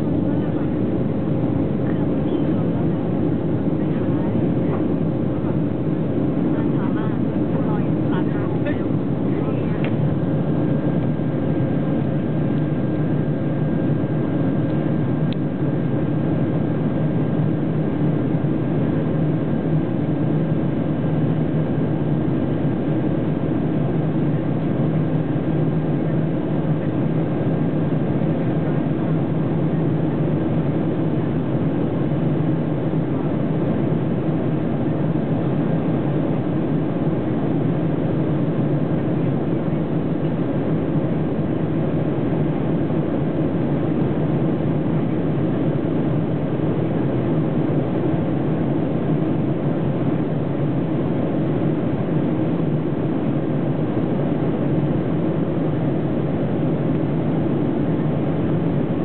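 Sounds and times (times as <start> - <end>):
faint steady whine: 0.0 - 59.0
jet engine and airflow rumble: 0.0 - 59.0.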